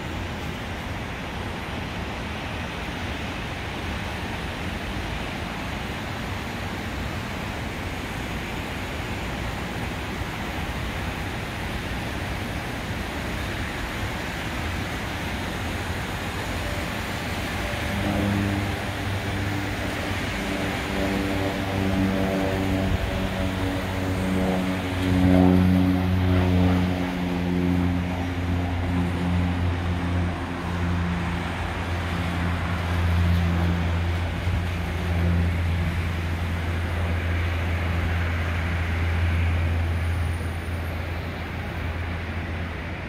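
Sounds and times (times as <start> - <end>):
steady rushing noise: 0.0 - 43.0
turboprop aircraft hum: 0.0 - 43.0.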